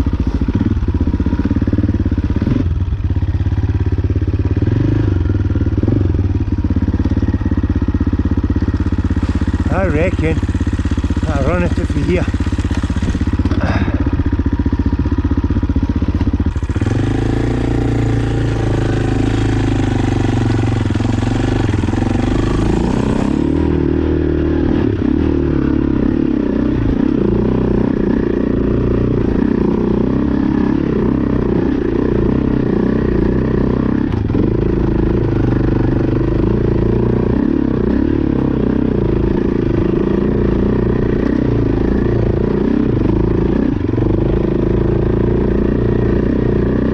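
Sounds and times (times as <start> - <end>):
motorcycle engine revving hard: 0.0 - 46.9.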